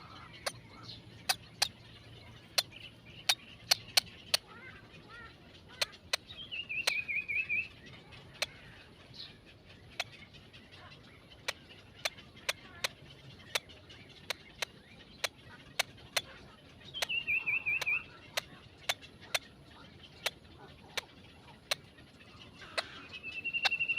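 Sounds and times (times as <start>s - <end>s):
small bird chirping: 0.0s - 23.9s.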